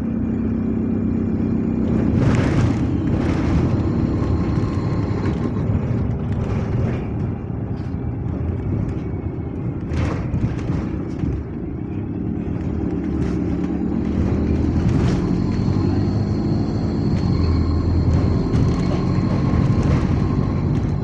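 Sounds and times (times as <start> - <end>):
bus engine running: 0.0 - 21.0.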